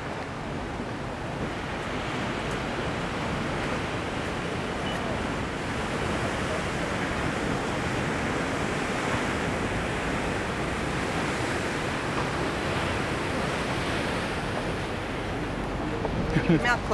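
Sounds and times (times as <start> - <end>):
ocean surf: 0.0 - 16.9
wind noise on microphone: 0.0 - 16.9.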